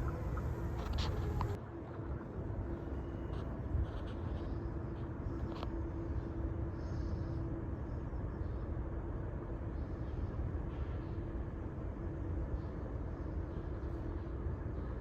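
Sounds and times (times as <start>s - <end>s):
faint steady hum: 0.0s - 15.0s
low rumble of vehicles: 0.0s - 15.0s.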